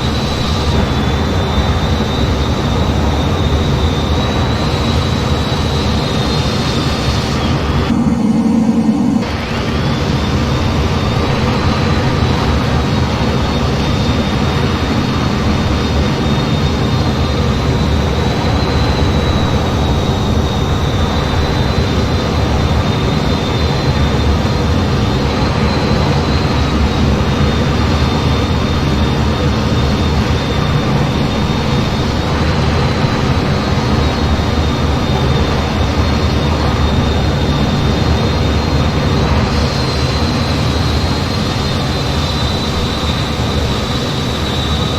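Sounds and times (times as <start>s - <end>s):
jet and airflow noise: 0.0s - 44.9s
thin high whine: 0.0s - 44.9s.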